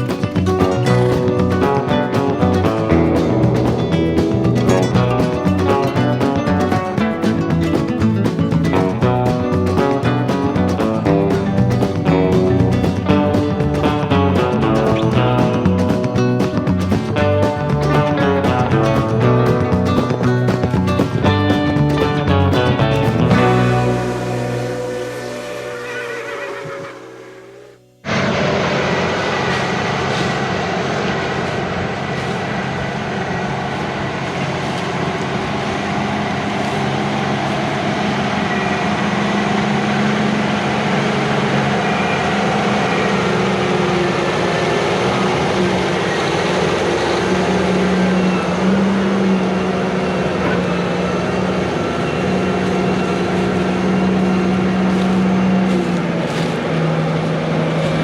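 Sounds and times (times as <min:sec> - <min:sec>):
heavy farm machinery engine: 0:00.0 - 0:58.0.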